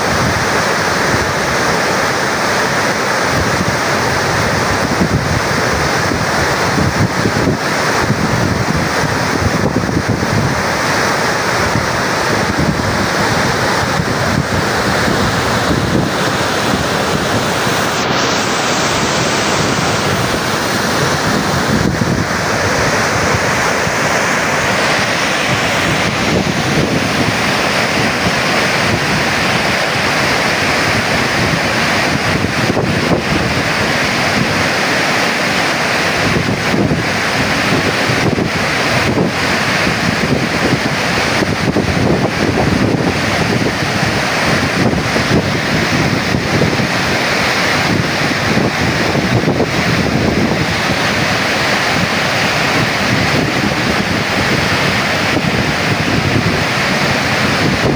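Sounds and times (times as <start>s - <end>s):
water rushing through spillway: 0.0s - 57.9s.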